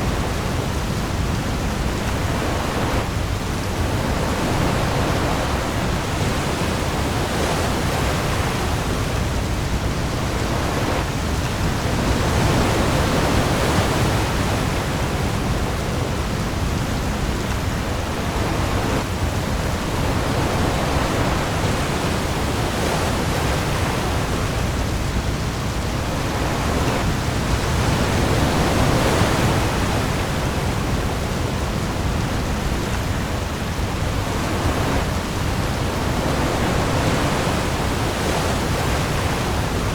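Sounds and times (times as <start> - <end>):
waves: 0.0 - 39.9.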